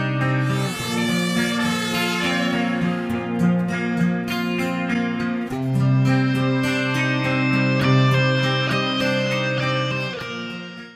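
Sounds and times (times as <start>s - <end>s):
background music with plucked notes: 0.0s - 10.9s.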